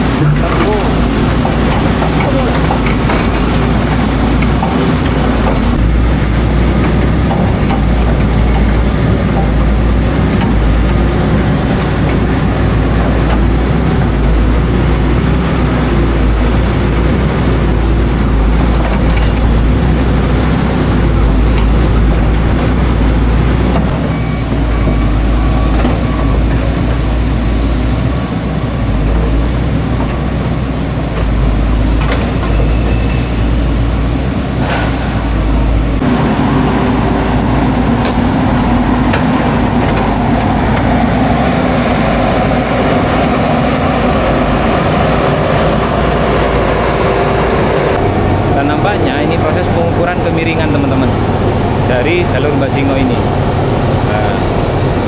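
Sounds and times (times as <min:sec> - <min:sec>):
heavy engine rumble: 0:00.0 - 0:55.0.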